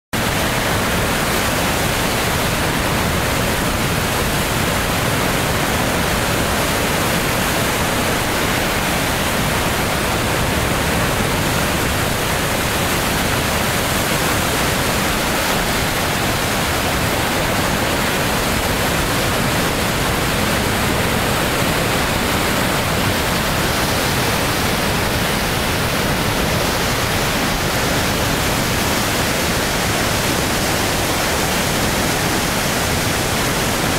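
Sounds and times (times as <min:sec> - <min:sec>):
white water rushing over weir: 0:00.2 - 0:33.9.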